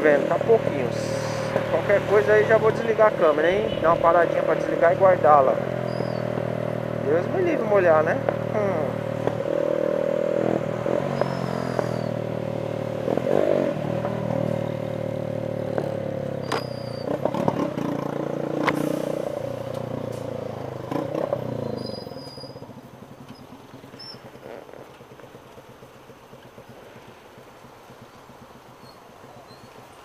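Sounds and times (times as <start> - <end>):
motorcycle engine running: 0.0 - 18.8, 19.4 - 30.0.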